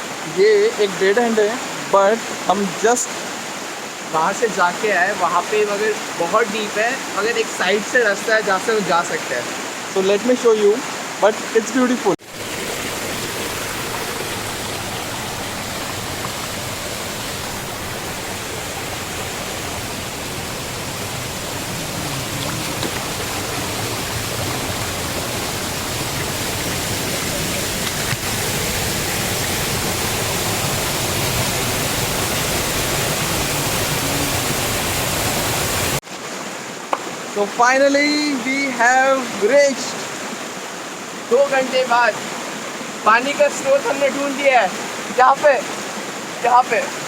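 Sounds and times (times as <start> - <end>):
rushing water: 0.0 - 47.0.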